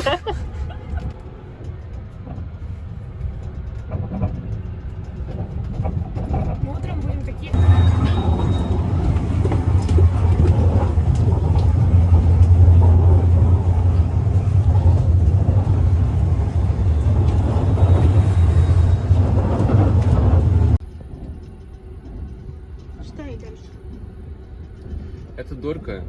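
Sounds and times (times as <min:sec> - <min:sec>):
passenger train rumbling: 0:00.0 - 0:26.0
train wheel clicks: 0:00.2 - 0:26.0.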